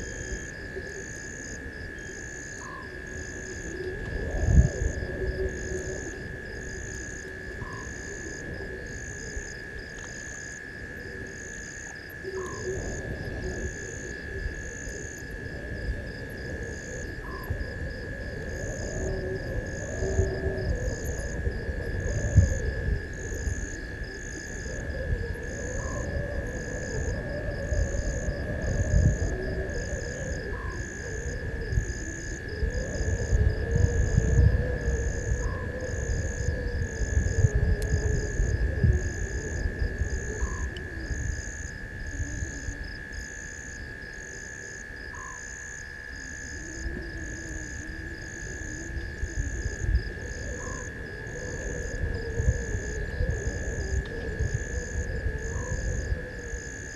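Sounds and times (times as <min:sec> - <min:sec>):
high-pitched insect trill: 0:00.0 - 0:56.9
pulsing insect chirp: 0:00.0 - 0:56.9.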